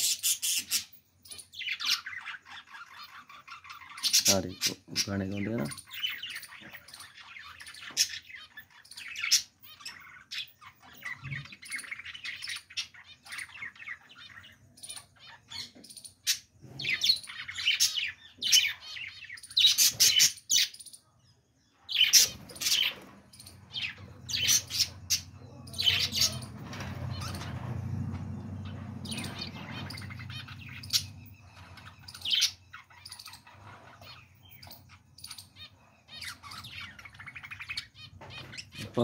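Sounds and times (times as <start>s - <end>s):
budgerigars chattering and warbling: 0.0s - 21.1s, 21.8s - 39.0s.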